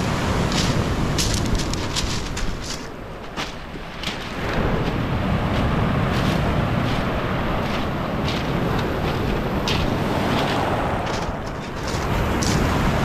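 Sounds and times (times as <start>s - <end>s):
surf breaking on shore: 0.0s - 13.0s
wind rumbling on microphone: 0.0s - 13.0s.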